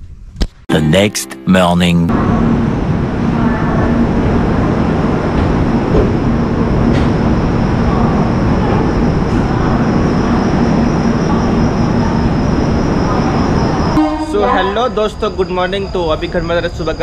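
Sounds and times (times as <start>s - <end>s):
train wheels rumbling on rail: 2.8s - 17.0s.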